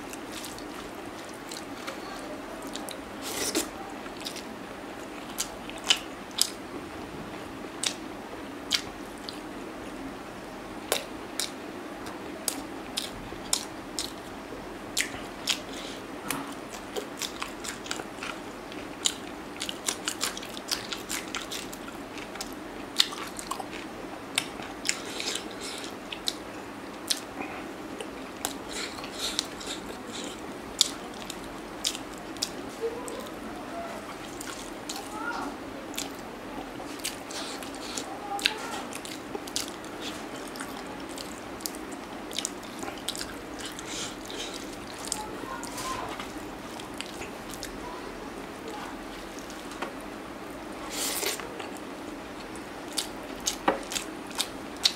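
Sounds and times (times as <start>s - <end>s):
person chewing food: 0.0s - 6.6s, 8.7s - 9.5s, 10.9s - 11.6s, 12.4s - 14.3s, 15.0s - 33.4s, 34.0s - 35.2s, 35.9s - 47.8s, 48.6s - 54.9s
steady low hum: 0.0s - 54.9s.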